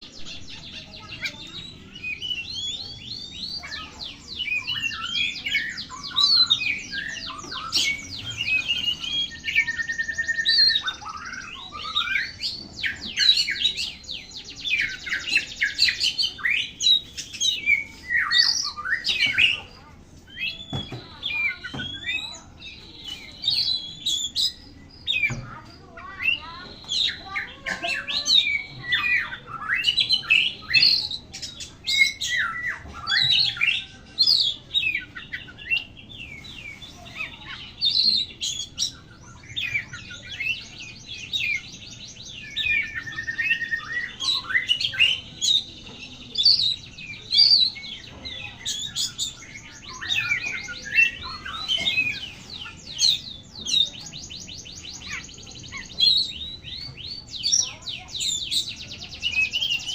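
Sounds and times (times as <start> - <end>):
songbird whistling and chirping: 0.0 - 59.9.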